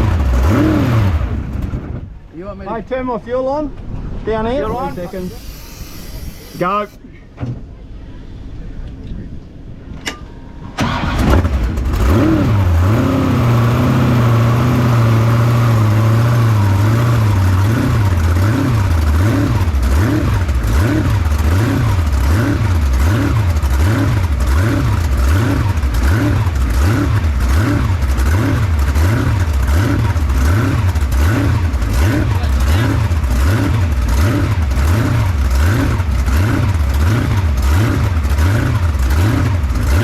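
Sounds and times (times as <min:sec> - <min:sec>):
boat engine revving: 0:00.0 - 0:02.0, 0:04.6 - 0:07.0, 0:10.8 - 0:40.0.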